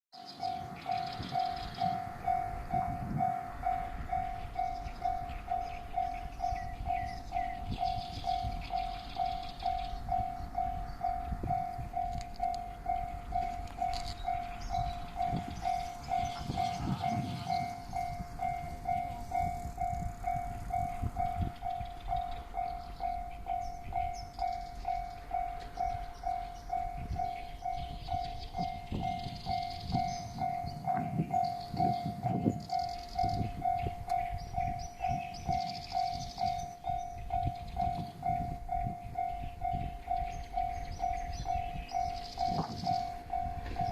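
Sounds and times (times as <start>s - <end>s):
level-crossing bell ringing: 0.2s - 43.9s
train wheels rumble and clatter: 0.4s - 43.9s.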